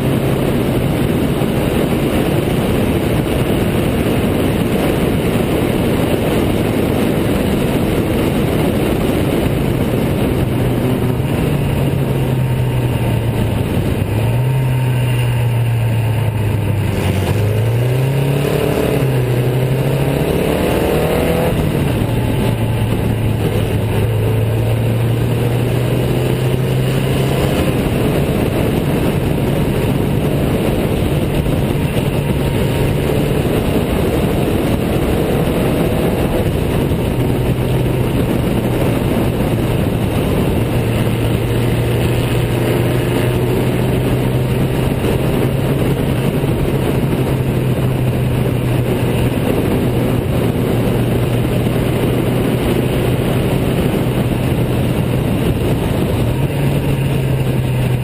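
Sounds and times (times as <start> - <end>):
car engine running hard: 0.0 - 58.0
wind noise: 0.0 - 58.0.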